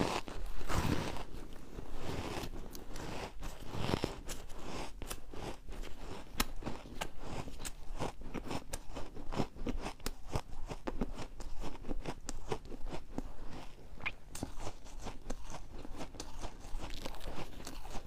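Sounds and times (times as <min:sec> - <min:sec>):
ice being chewed crunching: 0:00.0 - 0:18.0.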